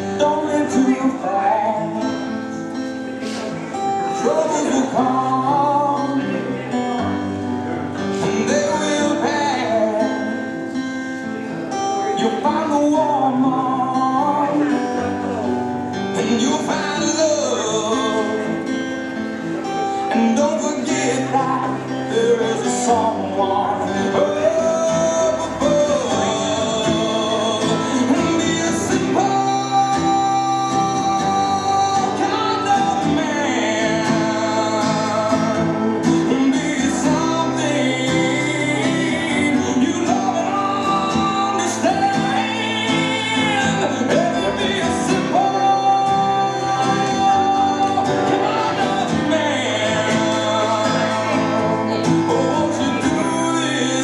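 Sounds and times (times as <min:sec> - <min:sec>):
slow song over loudspeaker: 0:00.0 - 0:54.0.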